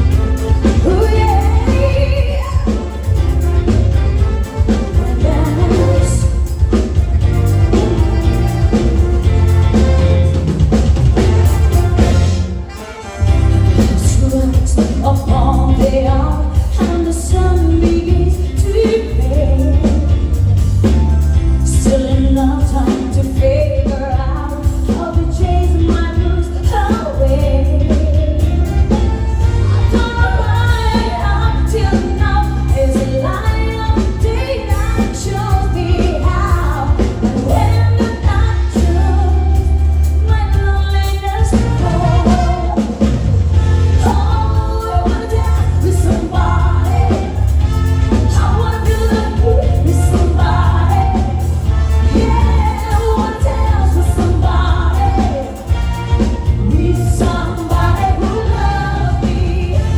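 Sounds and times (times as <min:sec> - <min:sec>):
live pop band: 0:00.0 - 0:59.9.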